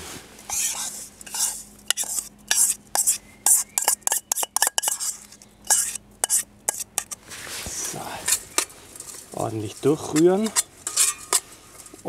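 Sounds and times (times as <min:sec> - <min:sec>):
utensil scraping iron pan: 0:00.5 - 0:07.2, 0:08.3 - 0:12.0.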